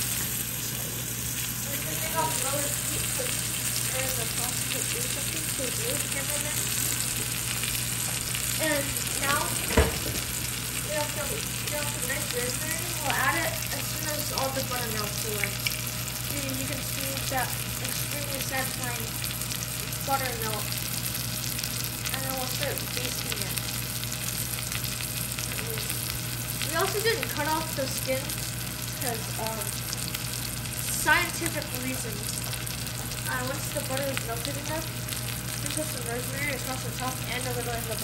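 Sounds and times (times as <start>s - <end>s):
fish and butter sizzling in skillet: 0.0s - 38.0s.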